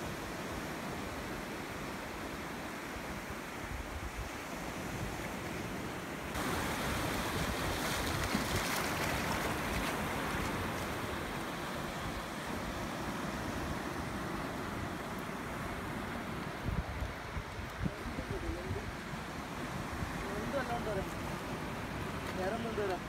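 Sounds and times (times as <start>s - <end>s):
surf washing over rocky shore: 0.0s - 23.0s.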